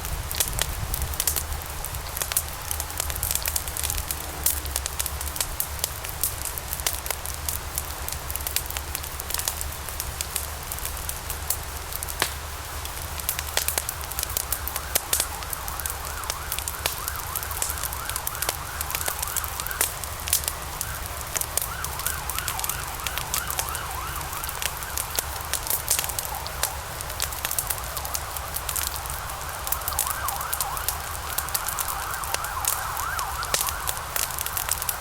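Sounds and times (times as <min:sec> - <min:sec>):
log fire crackling and popping: 0:00.0 - 0:35.0.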